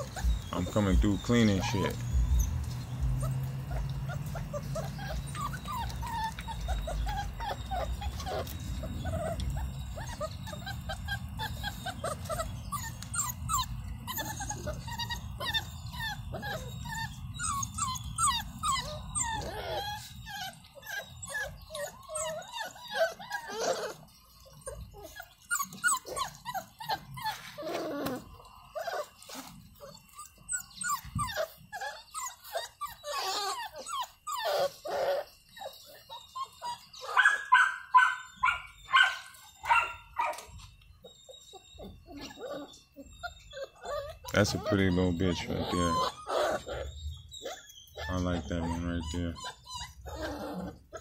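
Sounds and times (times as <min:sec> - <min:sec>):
puppies whimpering and yelping: 0:00.0 - 0:51.0.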